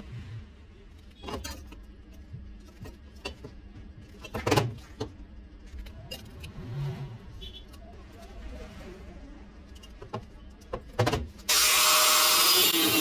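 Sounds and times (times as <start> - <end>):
low steady hum: 0.0 - 11.5.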